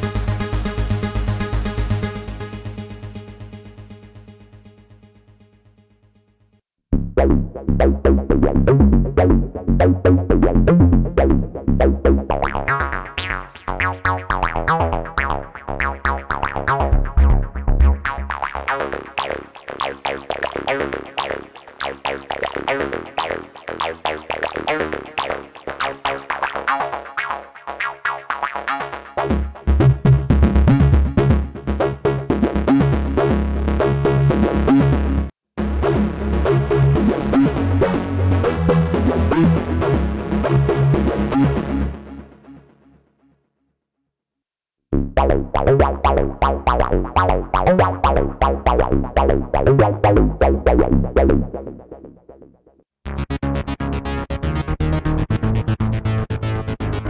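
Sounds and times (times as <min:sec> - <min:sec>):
synthesizer acid arpeggio: 0:00.0 - 0:04.4, 0:07.0 - 0:42.6, 0:45.0 - 0:57.0
heavy bass: 0:00.0 - 0:05.0, 0:06.9 - 0:27.1, 0:29.1 - 0:42.4, 0:44.9 - 0:57.0.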